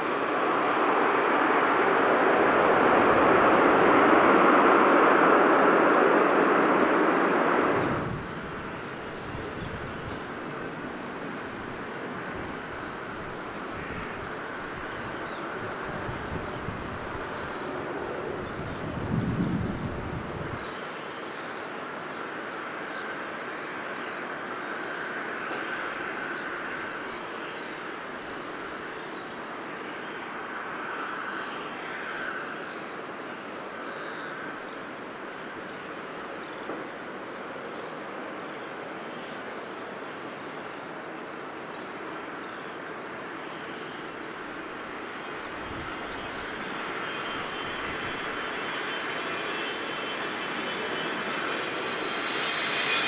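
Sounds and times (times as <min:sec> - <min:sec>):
distant jet aircraft: 0:00.0 - 0:53.0.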